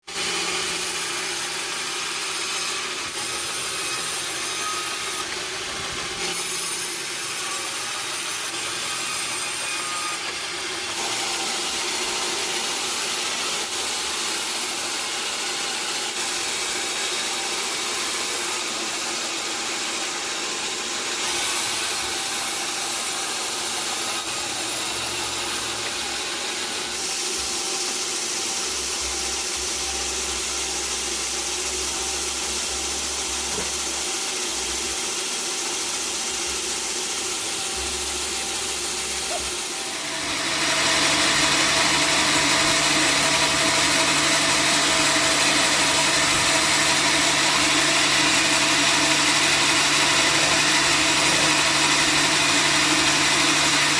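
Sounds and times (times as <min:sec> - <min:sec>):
saw cutting through log: 0:00.0 - 0:53.9.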